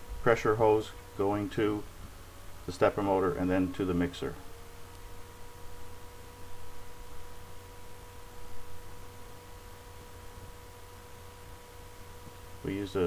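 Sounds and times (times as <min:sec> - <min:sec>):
steady low hum: 0:00.0 - 0:13.0
thin steady whine: 0:00.0 - 0:13.0.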